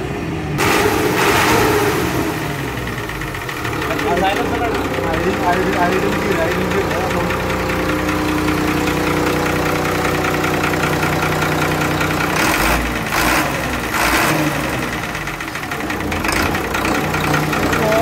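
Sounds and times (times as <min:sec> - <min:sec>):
diesel bus engine idling: 0:00.0 - 0:18.0
engine revving: 0:00.0 - 0:18.0.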